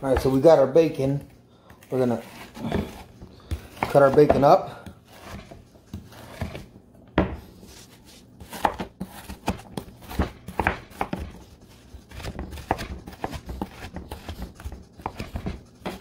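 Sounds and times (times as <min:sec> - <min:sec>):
knife chopping on wooden board: 0:02.3 - 0:07.8, 0:08.4 - 0:16.0.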